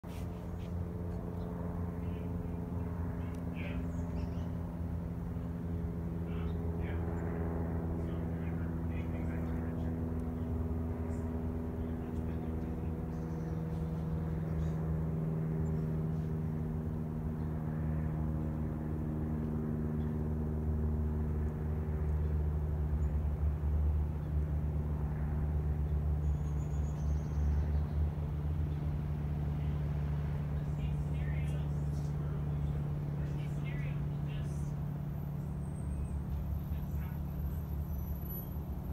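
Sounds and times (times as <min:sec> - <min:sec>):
propeller plane droning overhead: 0:00.0 - 0:38.9.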